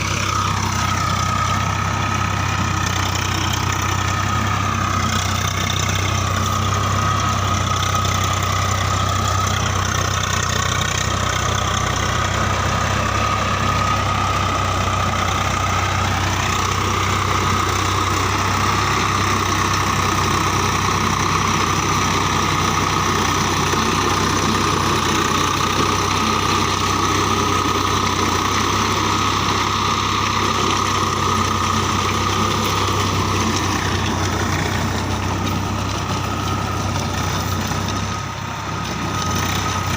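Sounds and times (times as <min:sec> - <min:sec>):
diesel tractor engine: 0:00.0 - 0:39.9.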